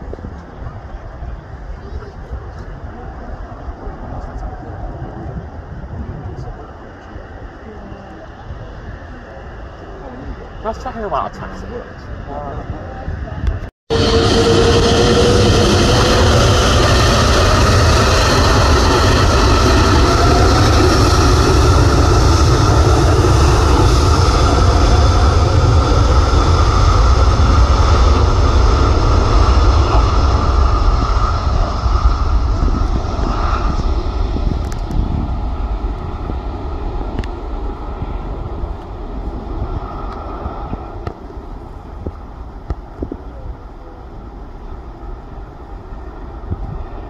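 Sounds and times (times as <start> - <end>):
jet engines whine and rumble: 0.0 - 47.0.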